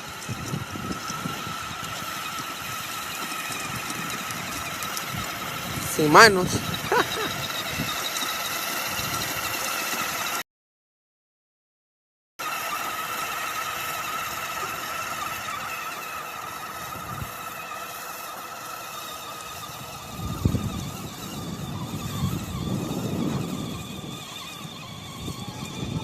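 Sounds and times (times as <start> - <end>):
motorbike engine whining: 0.0 - 10.4, 12.4 - 26.0.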